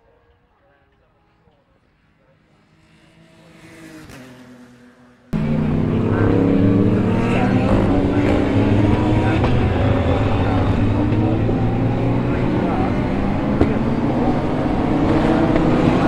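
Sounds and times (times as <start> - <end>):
distant race car passing: 0.0 - 16.0
race car engines accelerating: 0.2 - 16.0.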